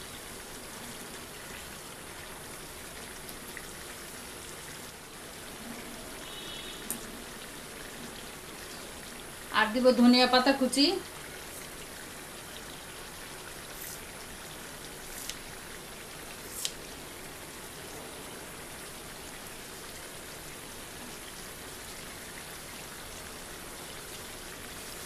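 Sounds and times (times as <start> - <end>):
curry bubbling in a pan: 0.0 - 25.0.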